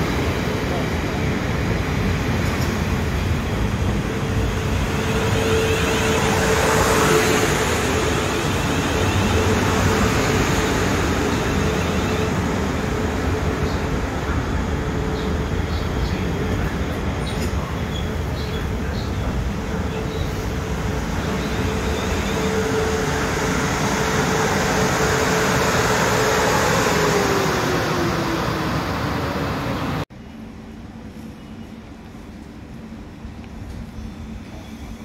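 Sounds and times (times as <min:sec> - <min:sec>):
train wheel and rail noise: 0:00.0 - 0:35.0
train whine: 0:00.0 - 0:35.0.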